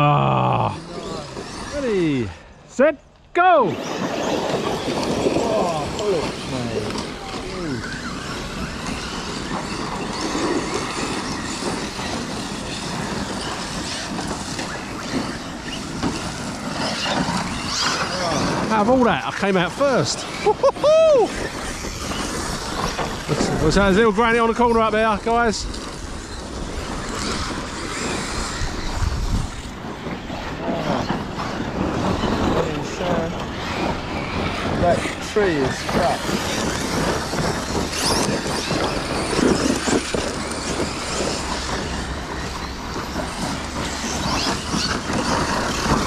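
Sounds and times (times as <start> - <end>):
electric motors whining: 0.0 - 2.7, 3.7 - 46.0
tyres on dirt: 0.0 - 46.0.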